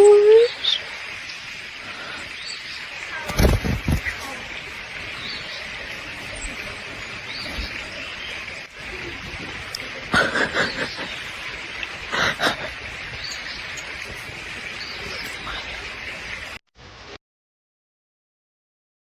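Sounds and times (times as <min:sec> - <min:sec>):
steady hiss: 0:00.6 - 0:17.1.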